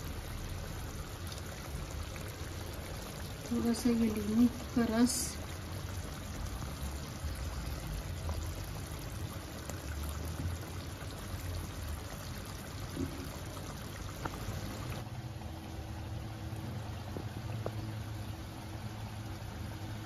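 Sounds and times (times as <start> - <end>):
curry simmering hiss: 0.0 - 20.0
juice dribbling: 0.0 - 20.0.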